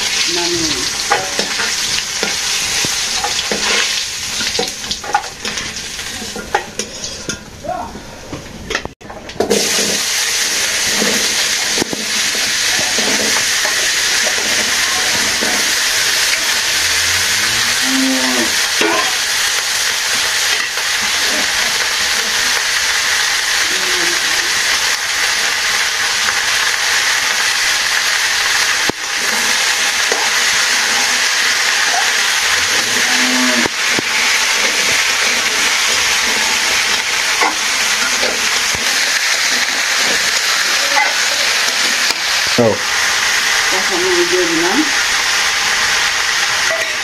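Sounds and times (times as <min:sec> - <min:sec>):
vegetables sizzling in oil: 0:00.0 - 0:07.6, 0:08.6 - 0:47.0.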